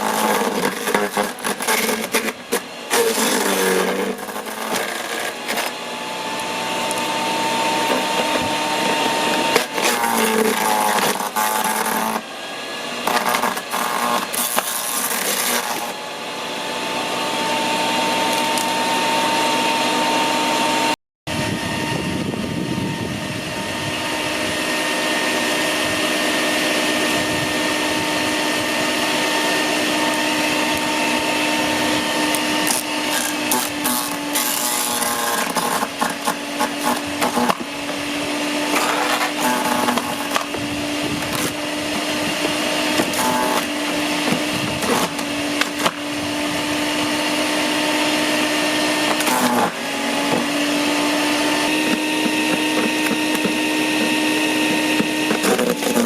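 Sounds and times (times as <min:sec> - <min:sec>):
wood chipper motor whine: 0:00.0 - 0:56.0.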